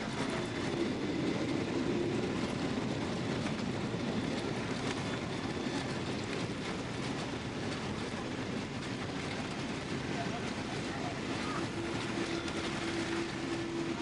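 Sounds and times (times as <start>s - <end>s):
airliner cabin rumble: 0.0s - 14.0s
rattles and clicks of cabin fittings: 0.1s - 14.0s.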